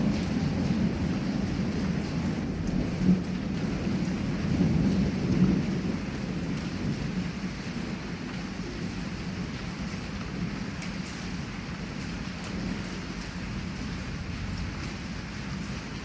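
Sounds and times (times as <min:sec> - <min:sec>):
thunder rumbling: 0:00.0 - 0:09.8, 0:12.6 - 0:16.0
heavy rain: 0:00.0 - 0:16.0.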